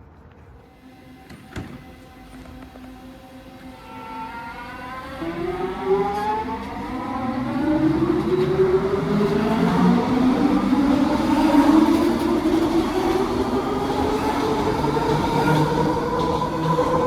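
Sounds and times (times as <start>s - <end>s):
train motor whine rising: 0.6s - 17.0s.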